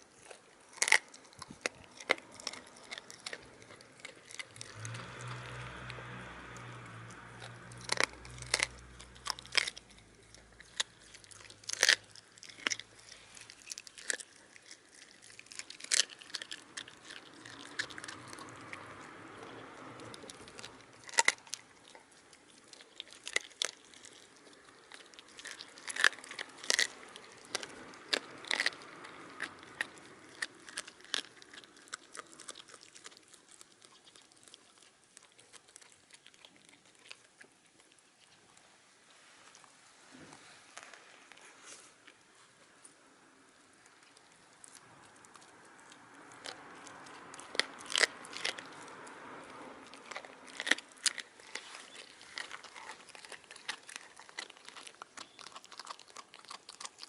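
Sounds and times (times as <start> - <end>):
dog chewing bones: 0.0 - 38.7, 43.6 - 57.0.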